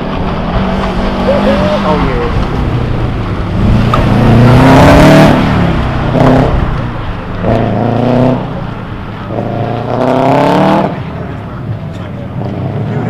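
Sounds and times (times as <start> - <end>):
car engine revving hard: 0.3 - 11.2.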